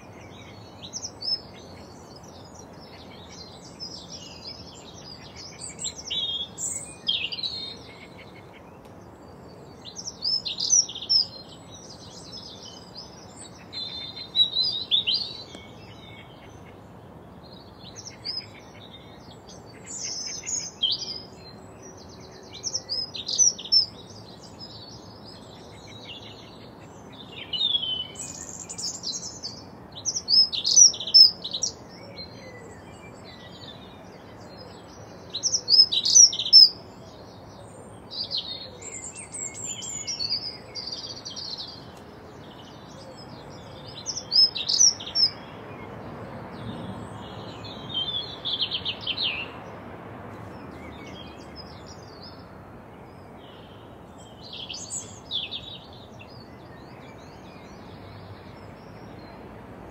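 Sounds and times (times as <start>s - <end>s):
songbird twittering: 0.0s - 16.8s, 17.5s - 37.0s, 37.8s - 45.9s, 46.6s - 49.7s, 50.5s - 59.4s.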